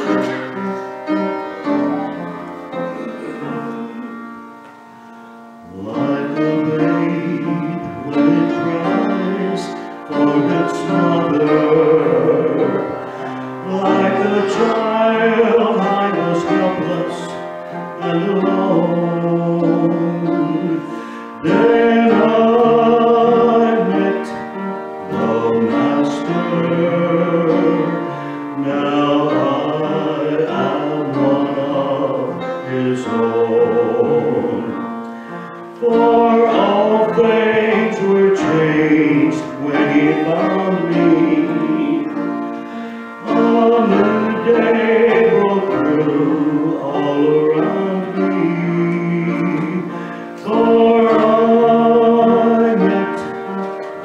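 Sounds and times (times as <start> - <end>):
man singing gospel: 0.0 - 4.3, 5.6 - 53.8
instrumental accompaniment: 0.0 - 54.0.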